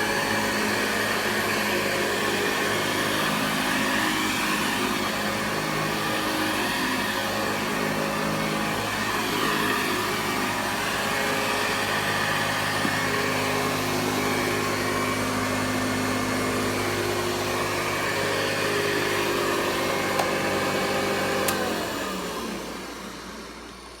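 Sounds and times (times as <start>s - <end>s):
vacuum cleaner running: 0.0s - 24.0s
vacuum motor winding down: 0.0s - 24.0s.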